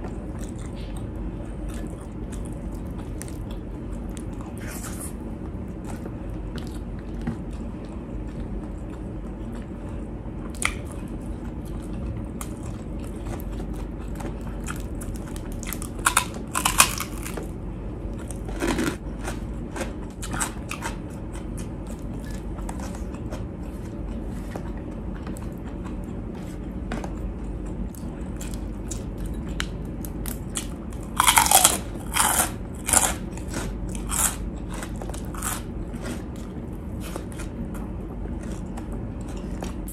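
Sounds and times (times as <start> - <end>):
chewing: 0.0 - 17.5, 18.1 - 39.9
low background hum: 0.0 - 39.9
crunching of fried pork rind: 0.2 - 39.9.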